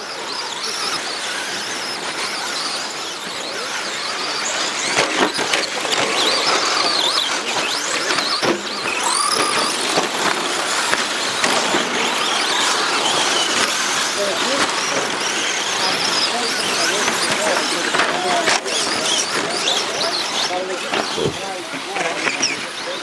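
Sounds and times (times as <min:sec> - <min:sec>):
rc car motors whining: 0:00.0 - 0:23.0
tyres scrabbling on track: 0:00.1 - 0:23.0.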